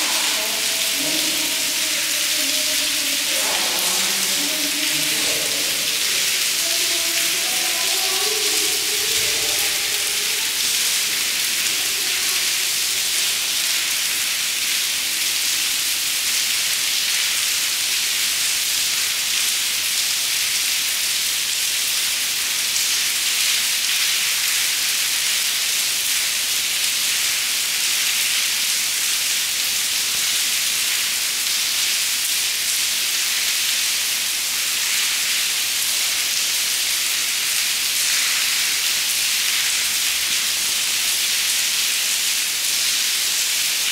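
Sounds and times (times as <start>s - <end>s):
rain falling on stone: 0.0s - 43.9s.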